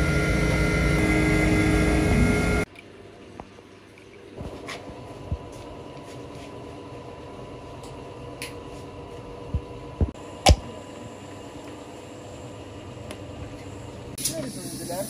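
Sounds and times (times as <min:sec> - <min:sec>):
machine oven humming: 0:00.0 - 0:03.2, 0:04.3 - 0:15.0.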